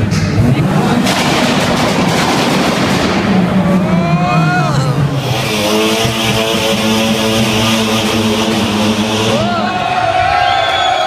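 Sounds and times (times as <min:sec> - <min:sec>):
steady engine note: 0:00.0 - 0:10.0
car engines revving: 0:00.0 - 0:10.7.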